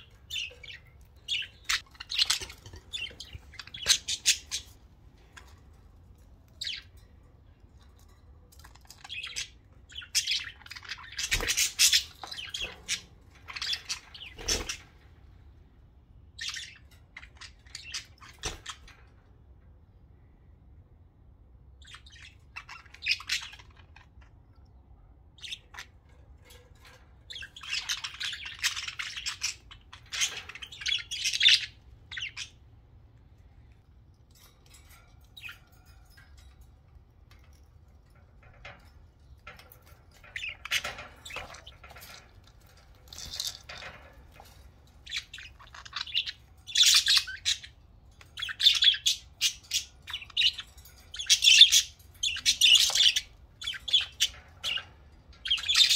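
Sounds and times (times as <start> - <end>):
budgerigars chirping and chattering: 0.0 - 15.1, 16.4 - 19.0, 21.8 - 24.4, 25.4 - 32.7, 37.4 - 55.9.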